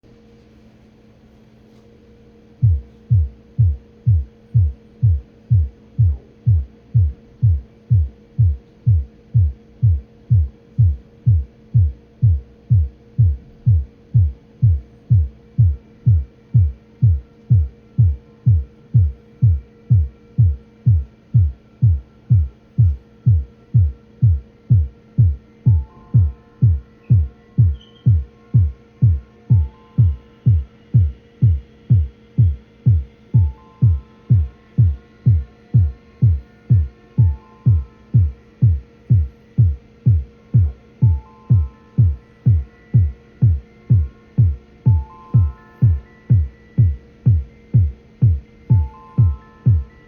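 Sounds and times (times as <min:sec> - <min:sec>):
steady hum: 0:00.0 - 0:50.0
regular low thumping pulse: 0:02.5 - 0:50.0.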